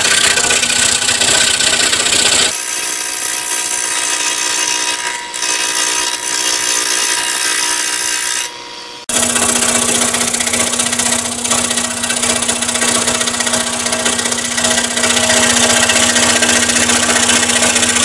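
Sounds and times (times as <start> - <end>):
scroll saw cutting wood: 0.0 - 18.0.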